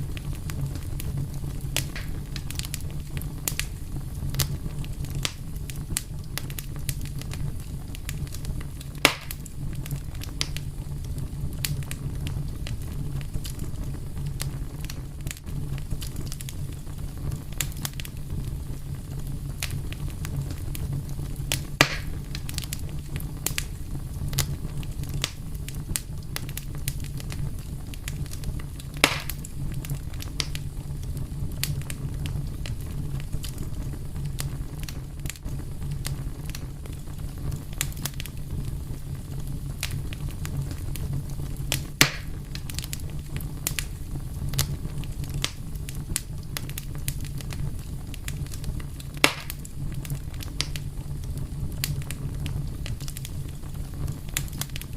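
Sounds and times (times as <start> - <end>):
sharp fire pops: 0.0 - 54.9
wood fire crackling: 0.0 - 54.9.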